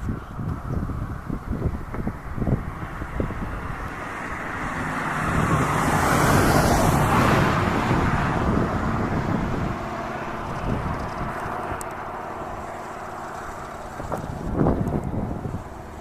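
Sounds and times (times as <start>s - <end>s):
car passing: 0.6s - 16.0s.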